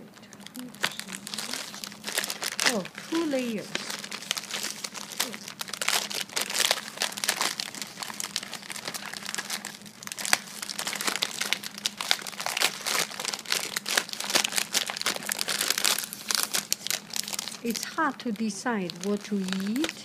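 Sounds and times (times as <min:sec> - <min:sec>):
plastic film crinkling: 0:00.0 - 0:20.0.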